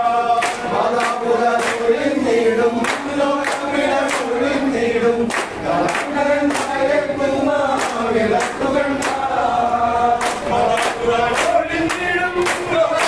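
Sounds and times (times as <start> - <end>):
group singing: 0.0 - 13.0
hand claps on a beat: 0.0 - 13.0.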